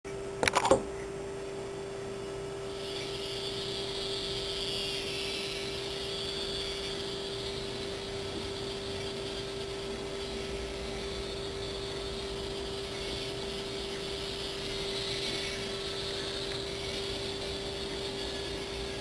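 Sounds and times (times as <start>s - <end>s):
constant hum: 0.1s - 19.0s
toy truck motor whining: 2.7s - 19.0s.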